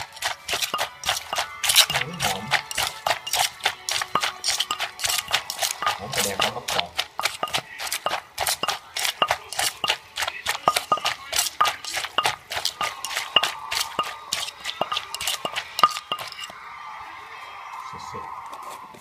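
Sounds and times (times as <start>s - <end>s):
wooden pestle pounding in mortar: 0.0s - 16.5s.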